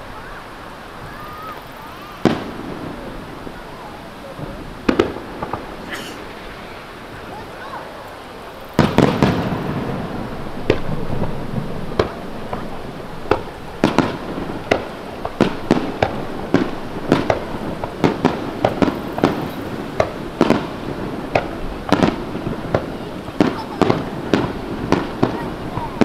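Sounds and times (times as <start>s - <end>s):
fireworks bursting: 0.0s - 26.0s
sharp firework bangs: 0.9s - 26.0s
loud firework boom: 1.0s - 7.8s, 8.8s - 26.0s.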